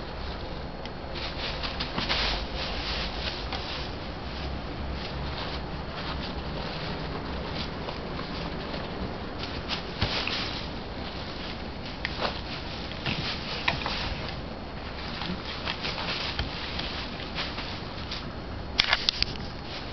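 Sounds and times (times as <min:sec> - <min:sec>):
tissue paper rustling and crinkling: 0:00.0 - 0:18.4, 0:19.2 - 0:19.9.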